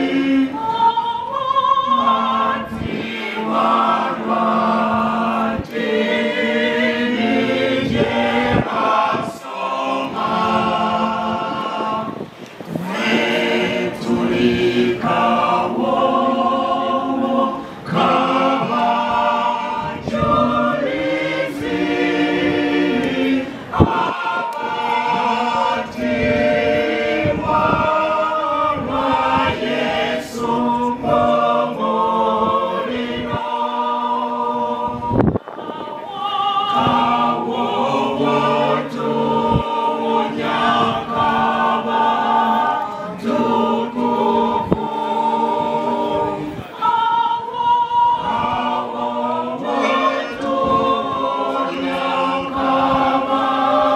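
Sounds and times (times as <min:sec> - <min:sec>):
women's choir singing: 0:00.0 - 0:53.9.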